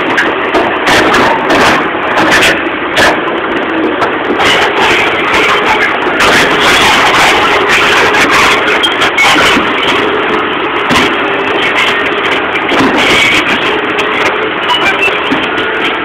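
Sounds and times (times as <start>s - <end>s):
excavator diesel engine: 0.0s - 16.0s
knocks and clanks: 0.0s - 16.0s.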